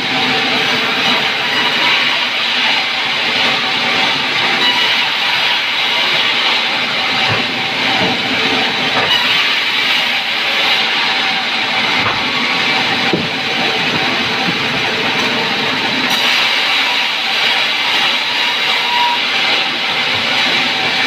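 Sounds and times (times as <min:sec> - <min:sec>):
woodworking machine running: 0:00.0 - 0:21.0.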